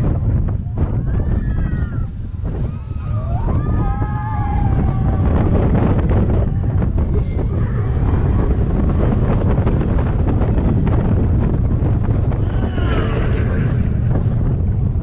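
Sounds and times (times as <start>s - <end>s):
roller coaster rumbling on track: 0.0s - 15.0s
wind rushing over microphone: 0.0s - 15.0s.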